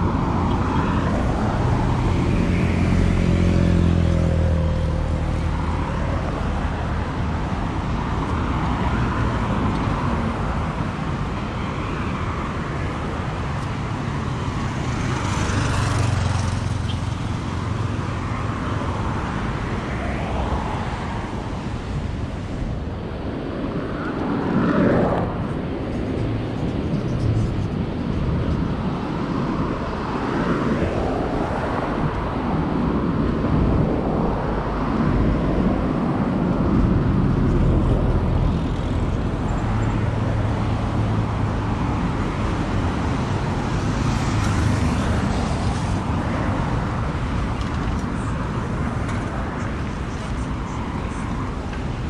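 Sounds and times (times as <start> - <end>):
cars passing: 0.0 - 52.0.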